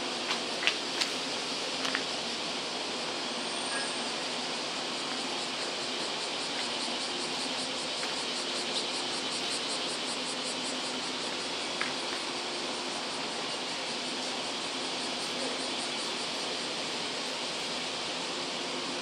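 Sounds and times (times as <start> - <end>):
electric train idling: 0.0 - 19.0
insects chirping: 0.0 - 19.0.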